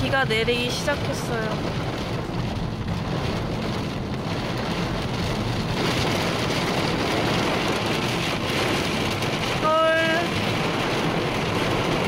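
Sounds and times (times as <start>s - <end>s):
car low rumble: 0.0s - 12.0s
heavy rain on windshield: 0.0s - 12.0s.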